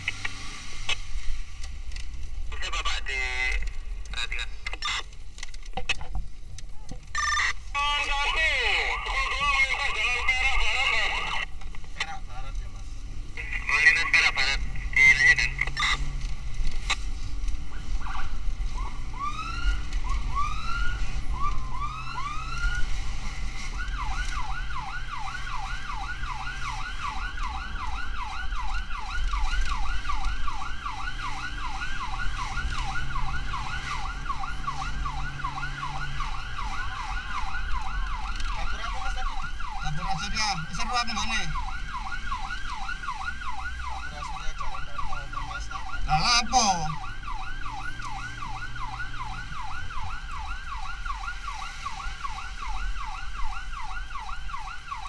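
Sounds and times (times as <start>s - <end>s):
emergency vehicle siren wailing: 6.6s - 55.0s.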